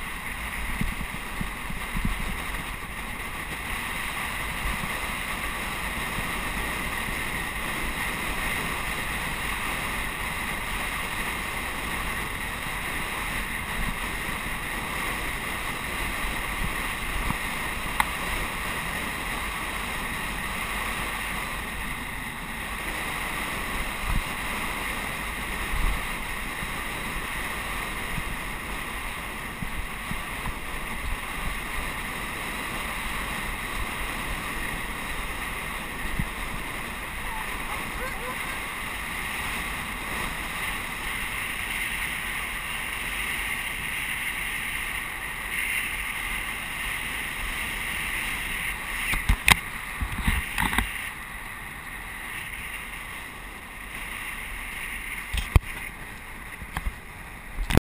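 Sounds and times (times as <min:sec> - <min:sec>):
tyres rumbling on asphalt: 0:00.0 - 0:57.8
wind rush over microphone: 0:00.0 - 0:57.8.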